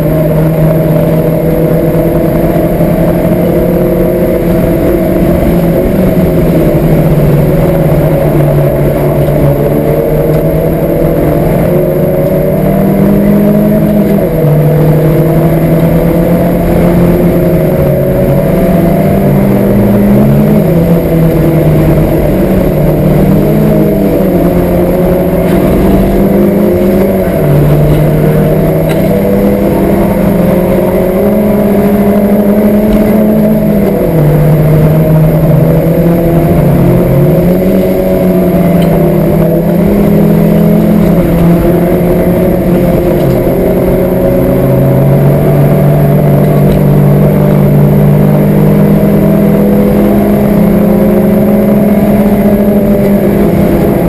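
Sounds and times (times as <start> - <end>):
car engine revving hard: 0.0 - 54.0.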